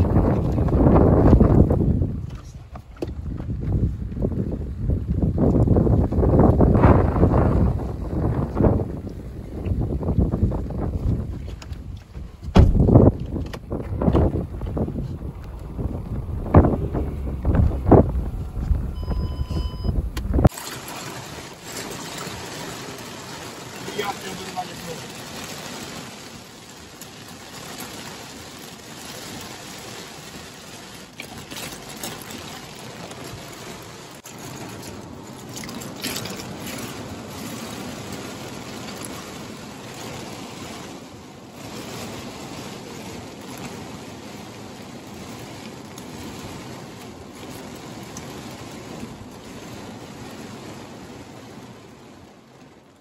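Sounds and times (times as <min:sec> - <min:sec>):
heavy rain on car windshield: 0:00.0 - 0:53.0.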